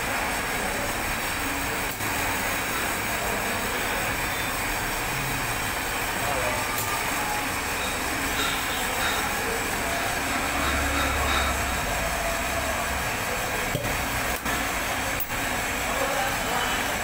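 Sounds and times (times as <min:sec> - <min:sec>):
workshop machinery hiss and hum: 0:00.0 - 0:17.0.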